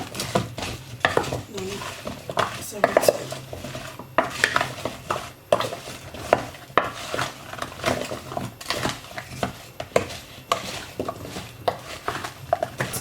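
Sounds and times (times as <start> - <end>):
vegetables tossed in a dish: 0.0 - 13.0.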